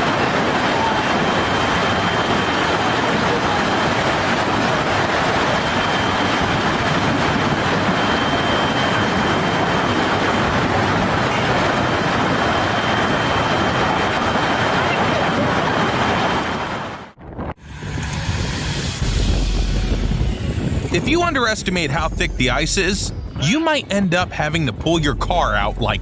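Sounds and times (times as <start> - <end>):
storm wind roaring: 0.0 - 26.0.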